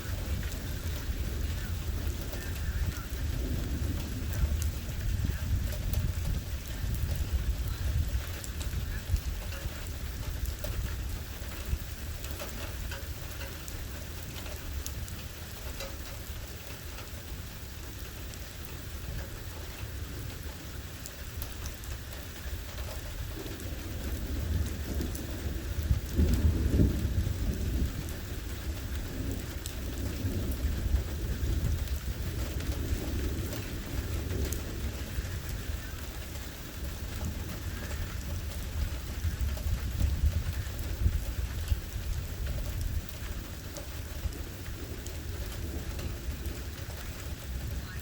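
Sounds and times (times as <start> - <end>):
low rumble of thunder: 0.0 - 48.0
steady rain: 0.0 - 48.0.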